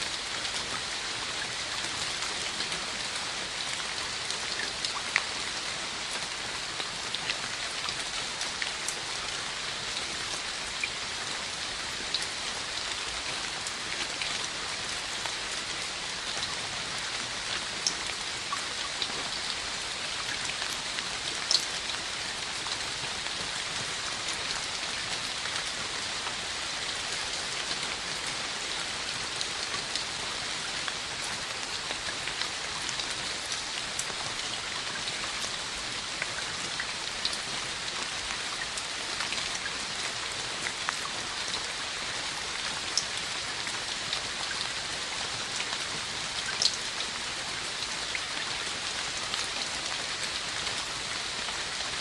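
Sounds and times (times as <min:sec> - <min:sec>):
rain falling on hard surface: 0:00.0 - 0:52.0.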